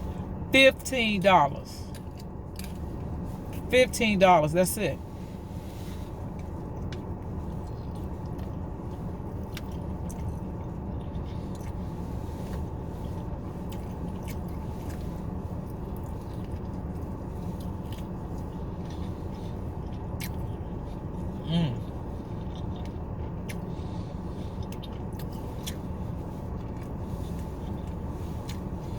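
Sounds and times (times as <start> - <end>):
steady low hum: 0.0 - 28.9
person chewing food: 1.9 - 3.5, 6.2 - 28.9.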